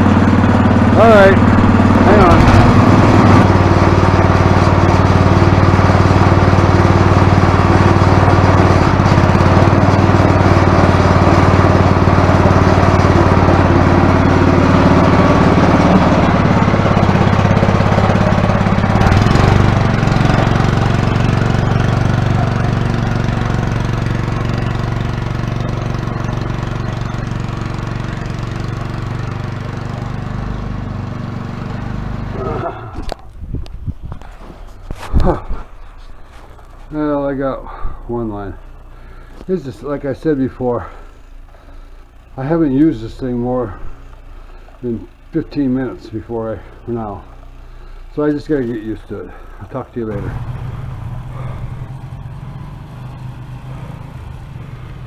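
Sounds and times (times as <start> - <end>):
snowblower engine running: 0.0 - 33.4, 34.2 - 55.0.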